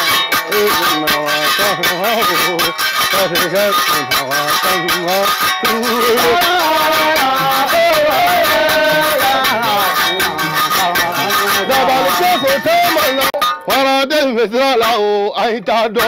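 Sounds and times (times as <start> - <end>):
melody over steady beat: 0.0 - 13.7.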